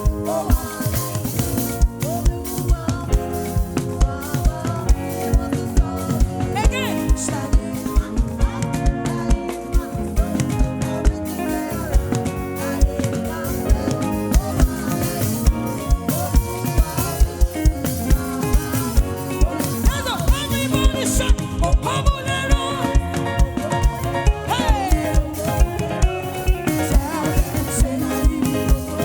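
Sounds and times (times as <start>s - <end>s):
live gospel band playing: 0.0s - 29.0s.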